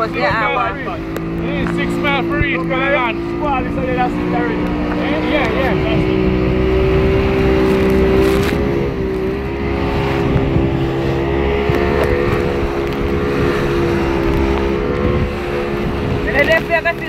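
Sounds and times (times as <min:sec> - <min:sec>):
bow wave rushing and splashing: 0:00.0 - 0:17.0
motorboat engine running: 0:00.0 - 0:17.0.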